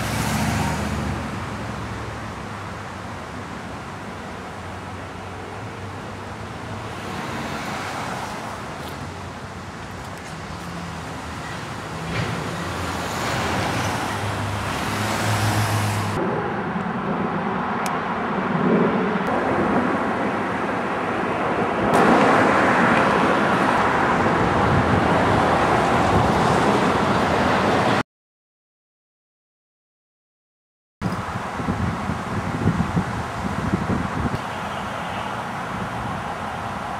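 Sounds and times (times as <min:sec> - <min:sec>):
cars passing on street: 0:00.0 - 0:28.0, 0:31.0 - 0:36.9.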